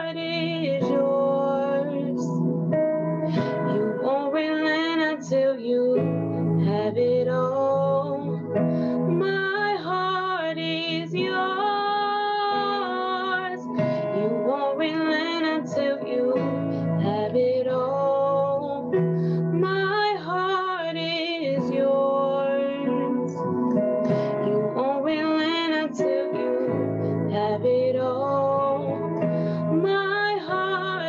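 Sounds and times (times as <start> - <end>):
keyboard chords: 0.0 - 31.0
woman singing a worship song: 0.0 - 31.0.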